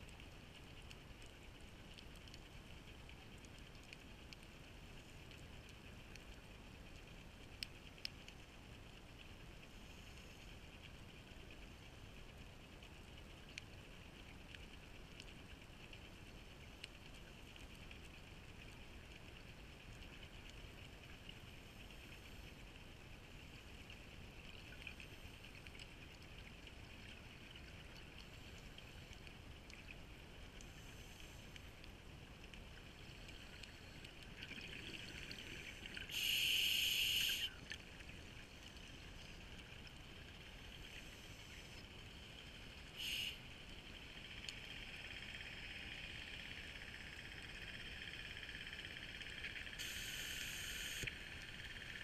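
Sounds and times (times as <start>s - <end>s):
faint underwater hiss: 0.0s - 52.0s
light crackles: 0.0s - 52.0s.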